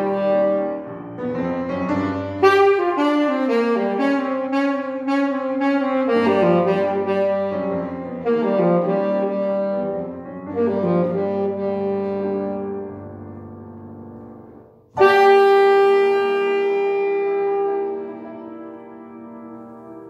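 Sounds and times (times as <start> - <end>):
saxophone melody: 0.0 - 20.0
upright piano accompaniment: 0.0 - 20.0.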